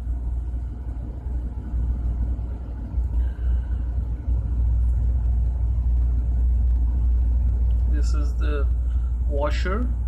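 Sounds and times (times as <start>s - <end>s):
low machinery rumble: 0.0s - 10.0s.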